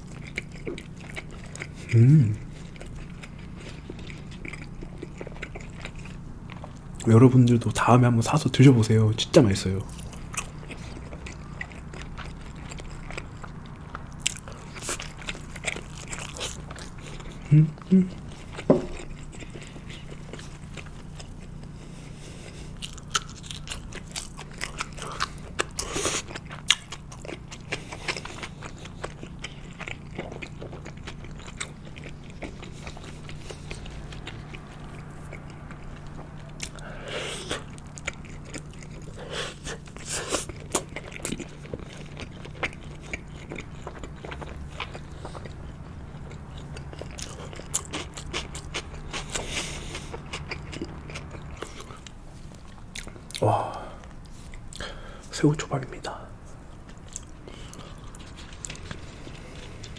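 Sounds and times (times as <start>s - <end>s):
chewing with wet mouth clicks: 0.0s - 55.0s, 56.6s - 59.9s
steady low hum: 0.0s - 59.9s.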